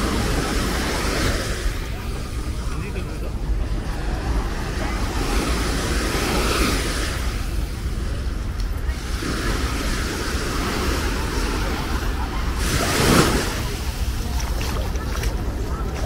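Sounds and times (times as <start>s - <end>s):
small waves washing on beach: 0.0s - 16.0s.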